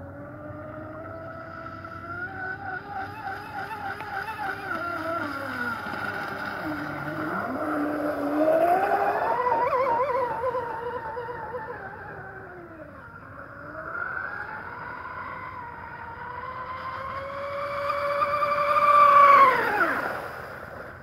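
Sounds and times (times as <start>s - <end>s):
electric motor whining: 0.0s - 20.4s.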